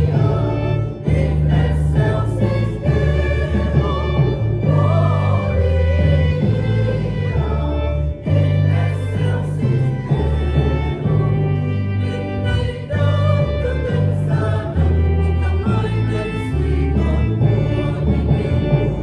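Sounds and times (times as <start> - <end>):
choir singing a hymn: 0.0 - 19.0
instrumental accompaniment: 0.0 - 19.0.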